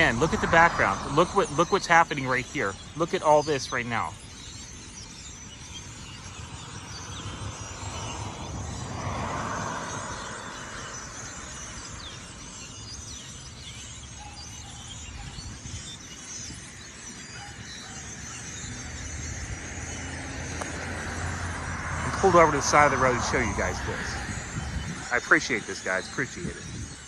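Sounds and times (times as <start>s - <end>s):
flock of birds chirping: 0.0s - 27.0s
road traffic rumble: 0.0s - 27.0s.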